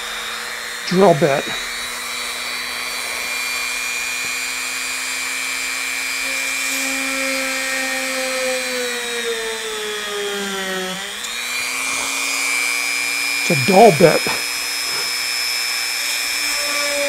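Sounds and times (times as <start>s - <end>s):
rotary tool drilling into wood: 0.0s - 17.0s.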